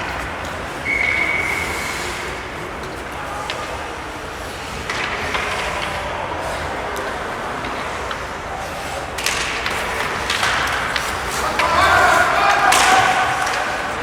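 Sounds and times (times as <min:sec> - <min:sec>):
skates scraping on ice: 0:00.0 - 0:14.0
hockey sticks and puck clicking: 0:02.8 - 0:14.0.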